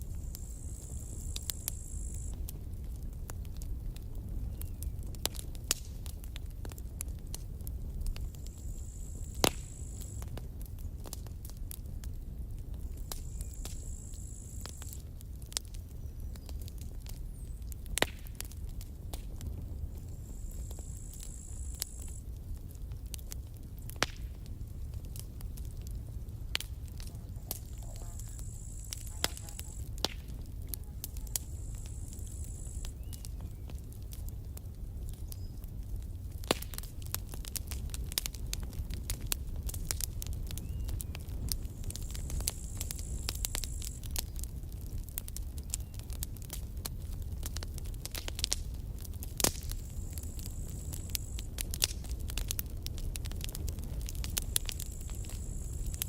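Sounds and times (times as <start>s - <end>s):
fire popping and crackling: 0.0s - 56.0s
flames rumbling: 0.0s - 56.0s.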